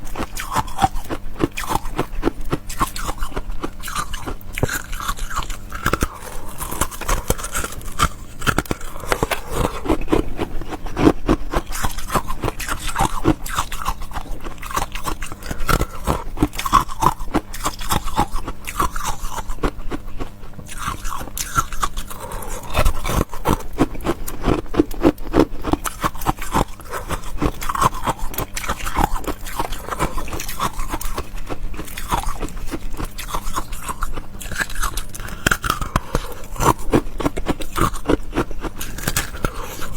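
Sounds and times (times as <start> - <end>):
chewing crisp food: 0.0 - 39.9.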